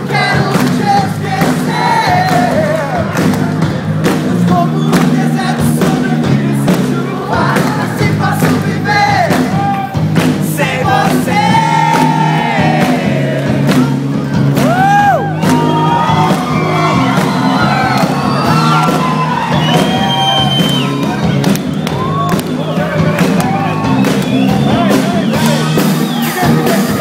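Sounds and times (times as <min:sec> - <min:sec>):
crowd noise: 0:00.0 - 0:27.0
drums: 0:00.0 - 0:27.0.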